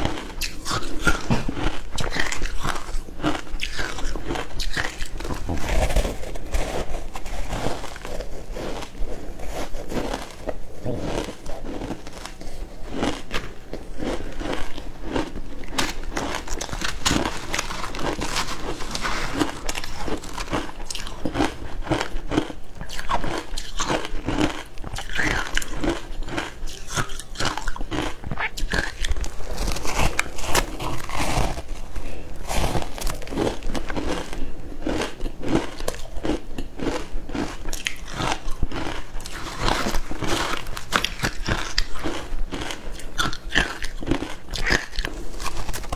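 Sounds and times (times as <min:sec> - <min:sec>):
ice being bitten and chewed: 0:00.0 - 0:45.9.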